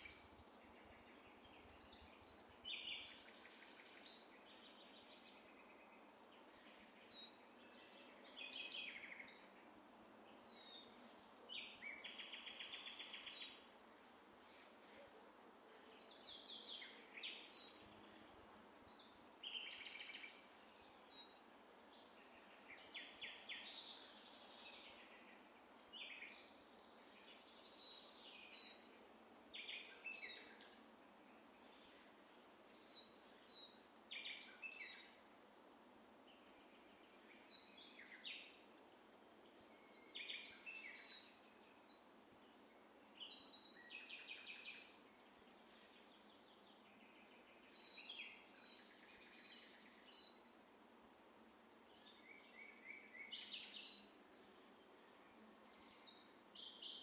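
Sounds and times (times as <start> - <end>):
songbirds singing trilled phrases: 0.0 - 14.9, 15.8 - 57.0
steady background hiss: 0.0 - 57.0.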